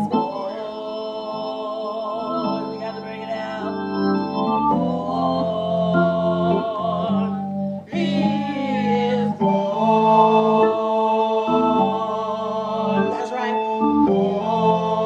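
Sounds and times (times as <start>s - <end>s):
electronic organ chords: 0.0s - 15.0s
voices singing: 0.0s - 15.0s.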